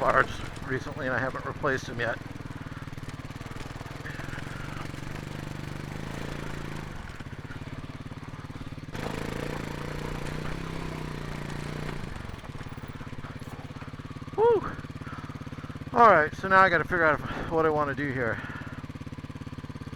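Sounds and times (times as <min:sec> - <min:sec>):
dirt bike engine at low revs: 0:00.0 - 0:19.9.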